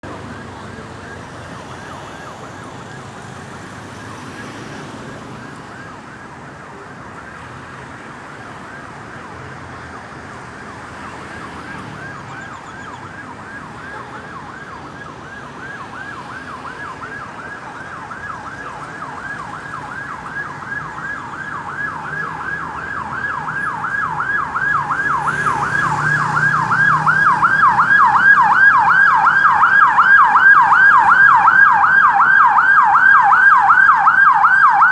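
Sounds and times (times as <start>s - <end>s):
ambulance siren yelping: 0.0s - 34.9s.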